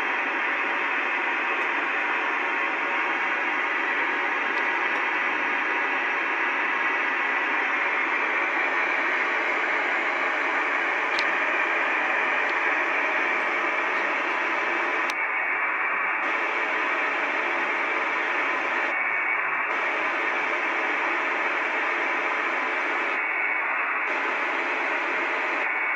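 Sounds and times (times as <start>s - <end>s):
radio static hiss: 0.0s - 25.9s.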